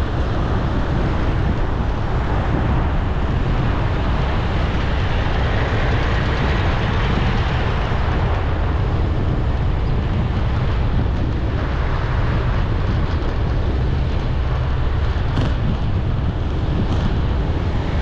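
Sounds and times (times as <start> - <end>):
city traffic: 0.0 - 18.0
heavy low rumble: 0.0 - 18.0.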